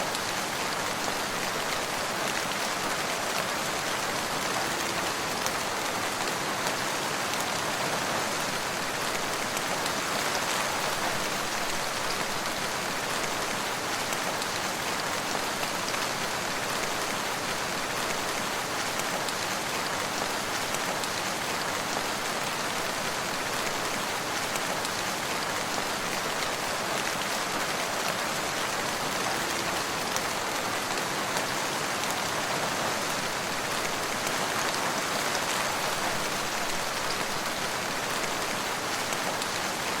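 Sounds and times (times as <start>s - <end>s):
steady rain pattering: 0.0s - 40.0s.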